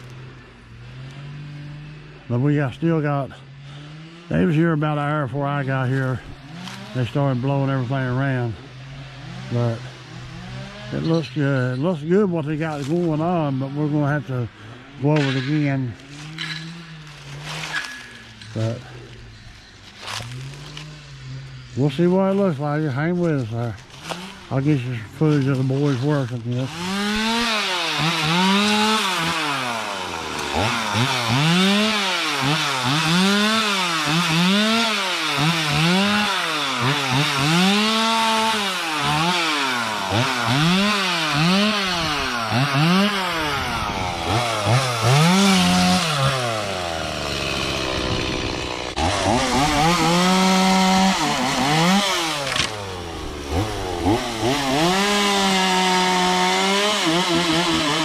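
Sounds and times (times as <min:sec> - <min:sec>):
brush cutter engine revving: 0:00.0 - 0:58.0.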